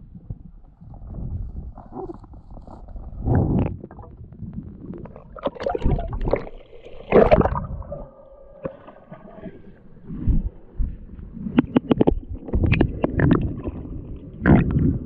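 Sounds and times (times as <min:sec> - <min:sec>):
water sloshing and gurgling: 0:00.0 - 0:15.0.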